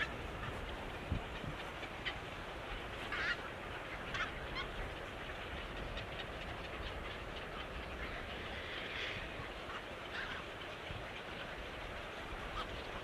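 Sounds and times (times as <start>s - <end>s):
background hiss and rumble: 0.0s - 13.0s.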